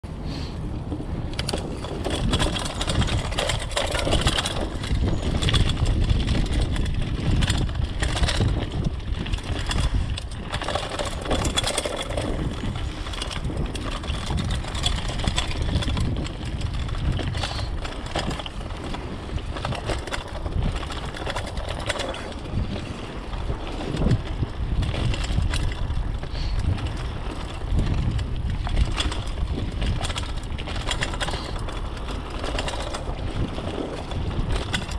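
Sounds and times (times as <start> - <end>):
bike clicking and rattling: 0.0 - 34.9
wind buffeting microphone: 0.1 - 34.9.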